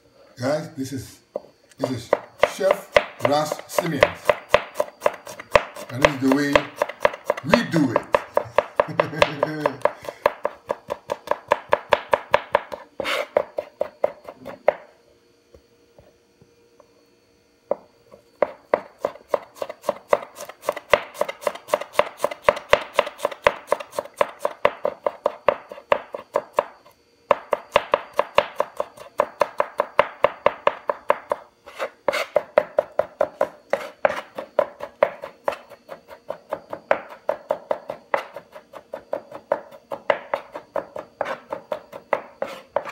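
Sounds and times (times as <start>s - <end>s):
cleaver chopping on cutting board: 1.8s - 14.9s, 18.4s - 42.9s.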